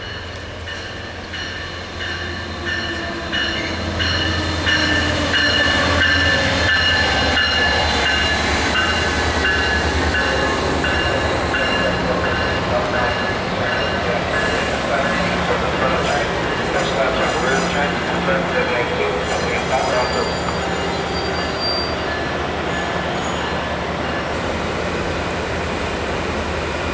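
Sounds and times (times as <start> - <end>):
diesel train engine rumble: 0.0 - 26.9.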